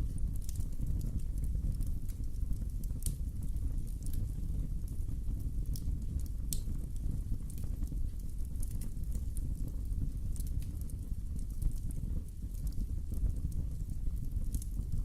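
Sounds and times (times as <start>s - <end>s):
burning wood popping: 0.0s - 15.0s
wood fire crackling: 0.0s - 15.0s.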